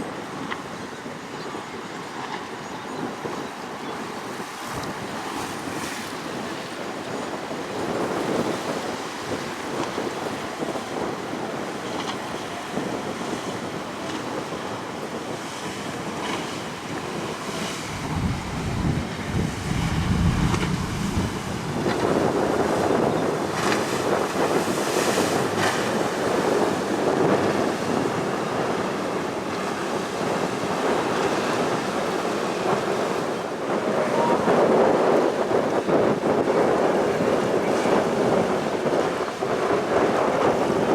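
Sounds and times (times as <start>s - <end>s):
choppy waves: 0.0s - 40.9s
wind buffeting microphone: 0.0s - 40.9s.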